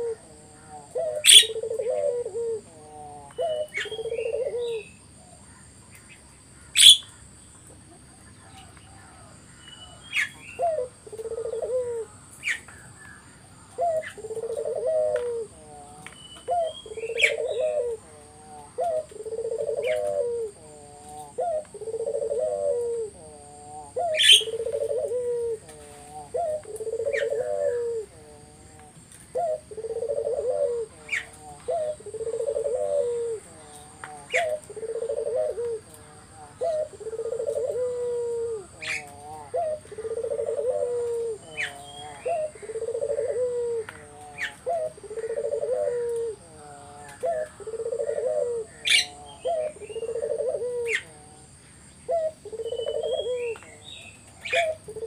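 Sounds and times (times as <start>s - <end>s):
dove cooing: 0.0s - 5.7s, 6.6s - 55.0s
small birds chirping: 0.0s - 55.0s.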